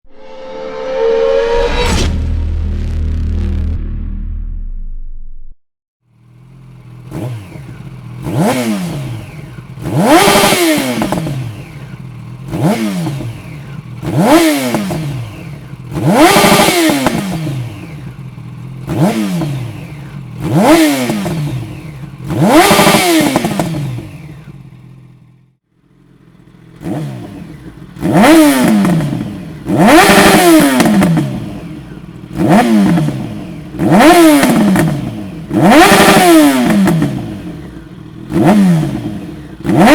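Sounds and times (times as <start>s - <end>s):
motorcycle engine revving: 6.1s - 39.9s.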